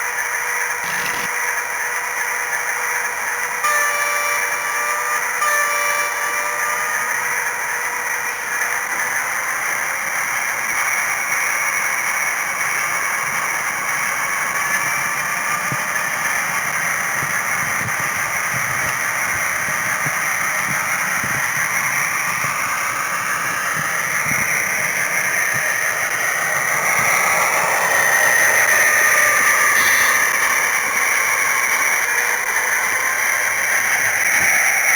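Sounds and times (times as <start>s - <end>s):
model train motor whine: 0.0s - 34.9s.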